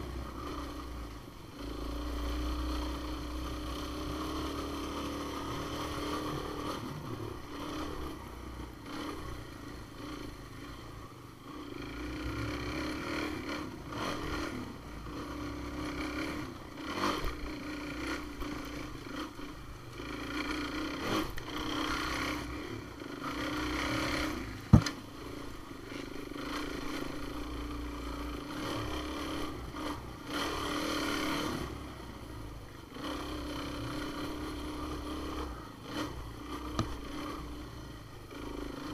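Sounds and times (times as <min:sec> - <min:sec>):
off-road vehicle engine: 0:00.0 - 0:38.9.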